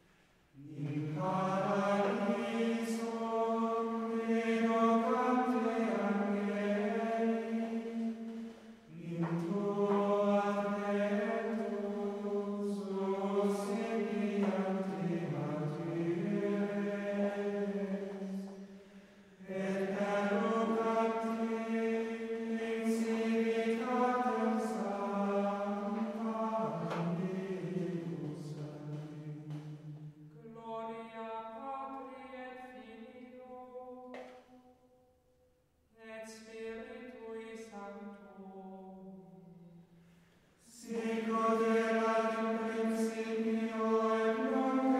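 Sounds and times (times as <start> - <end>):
chant-like singing: 0.6 - 34.6, 40.6 - 44.9.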